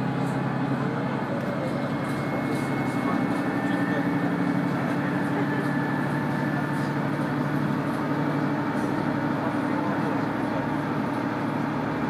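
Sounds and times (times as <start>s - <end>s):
diesel railcar engine running: 0.0s - 12.0s
train running noise: 0.0s - 12.0s.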